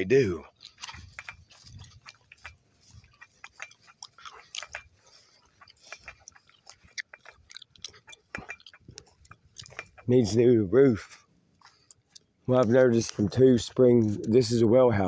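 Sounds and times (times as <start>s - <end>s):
footsteps through dry grass and leaves: 0.0s - 15.0s.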